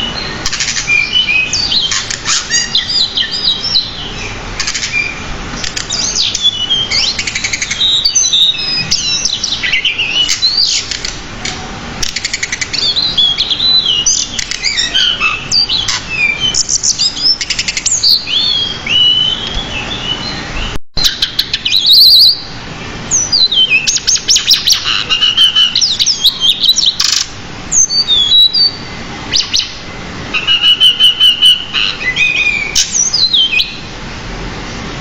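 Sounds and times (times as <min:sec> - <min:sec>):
bird singing whistled notes: 0:00.0 - 0:10.9, 0:12.2 - 0:22.5, 0:23.1 - 0:27.1, 0:27.7 - 0:29.8, 0:30.4 - 0:33.9.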